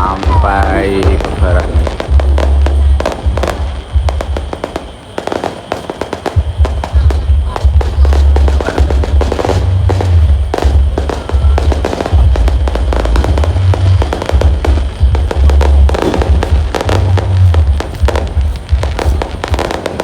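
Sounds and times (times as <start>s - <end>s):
heavy low rumble: 0.0s - 4.9s, 6.4s - 19.8s
fireworks bangs and crackles: 0.0s - 20.0s.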